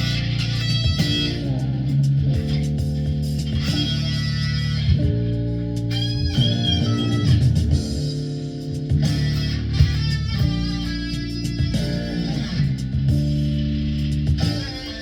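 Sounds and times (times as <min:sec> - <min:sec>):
rock backing track: 0:00.0 - 0:15.0.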